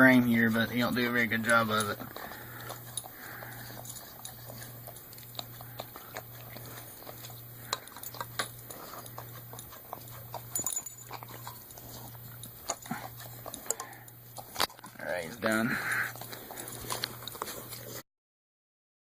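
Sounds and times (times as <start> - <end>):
dog licking food from metal cans: 0.0 - 18.0
low pulsing hum: 0.0 - 18.0.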